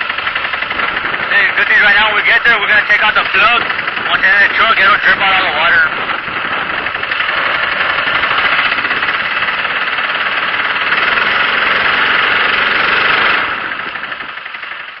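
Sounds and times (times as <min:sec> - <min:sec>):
boat motor rattling drone: 0:00.0 - 0:15.0.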